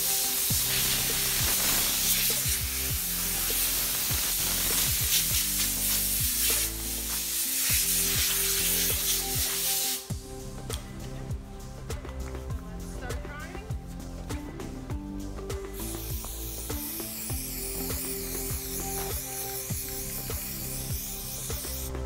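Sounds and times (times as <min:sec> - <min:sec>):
background music with a beat: 0:00.0 - 0:22.0.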